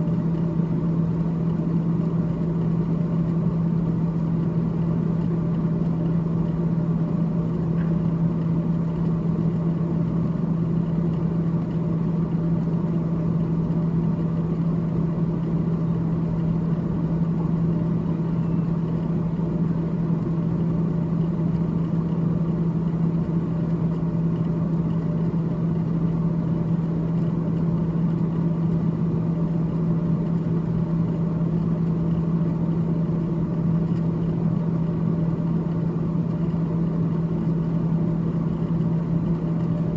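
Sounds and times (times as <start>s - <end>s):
freezer fan humming: 0.0s - 39.9s.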